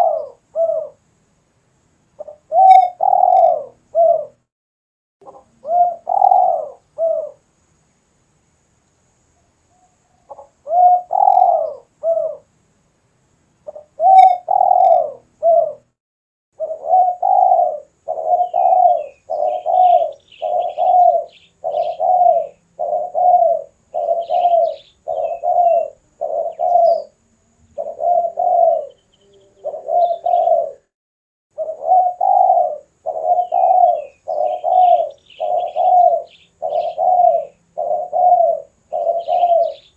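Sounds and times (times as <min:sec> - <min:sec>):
dove cooing: 0:00.0 - 0:01.0, 0:02.2 - 0:04.4, 0:05.2 - 0:07.4, 0:09.8 - 0:12.5, 0:13.7 - 0:15.9, 0:16.6 - 0:30.9, 0:31.6 - 0:39.9
small bird chirping: 0:02.2 - 0:04.4, 0:05.2 - 0:07.5, 0:08.8 - 0:12.5, 0:13.6 - 0:15.9, 0:16.6 - 0:30.9, 0:31.6 - 0:39.9.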